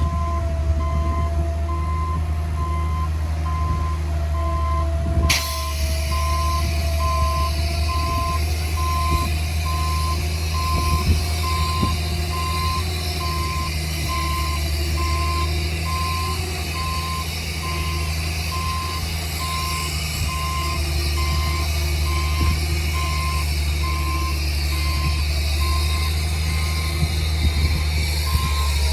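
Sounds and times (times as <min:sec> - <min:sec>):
diesel engine running: 0:00.0 - 0:28.9
reverse alarm beeping: 0:00.0 - 0:28.9.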